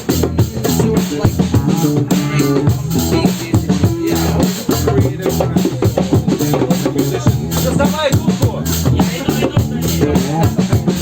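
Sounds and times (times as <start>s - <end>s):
drum kit playing: 0.0s - 11.0s
plucked guitar lines: 0.0s - 11.0s.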